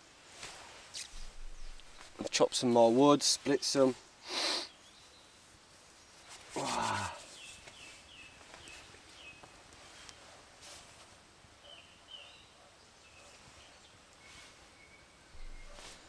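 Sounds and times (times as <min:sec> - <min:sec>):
small birds chirping: 0:00.9 - 0:10.3, 0:11.6 - 0:16.0.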